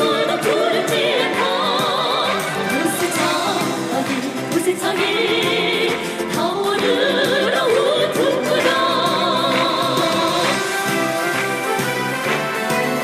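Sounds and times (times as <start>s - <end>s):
women singing with vibrato: 0.0s - 11.0s
band accompaniment: 0.0s - 13.0s.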